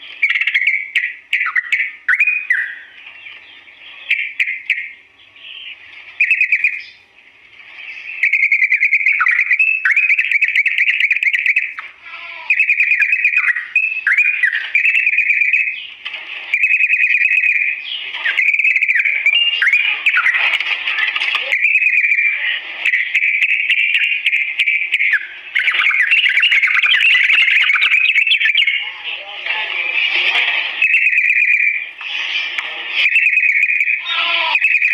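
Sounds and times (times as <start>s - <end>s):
bird singing rolling chatter: 0.0s - 34.9s.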